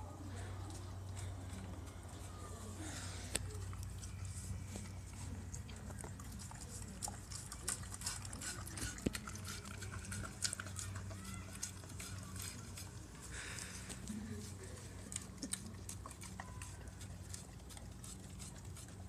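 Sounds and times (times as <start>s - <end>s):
dog licking and chewing: 0.6s - 19.0s.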